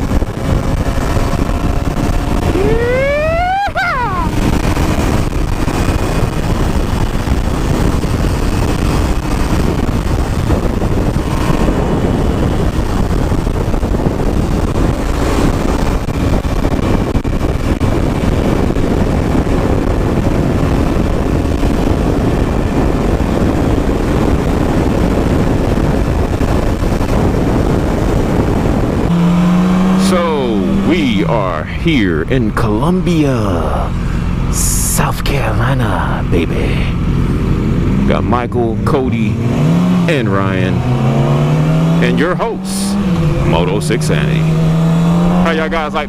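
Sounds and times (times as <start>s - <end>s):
motorcycle engine and road noise: 0.0s - 46.0s
wind rush on microphone: 0.0s - 46.0s.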